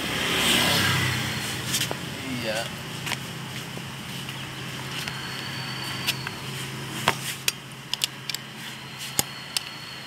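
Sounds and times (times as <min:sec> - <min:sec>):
steady low hum: 0:01.0 - 0:10.0.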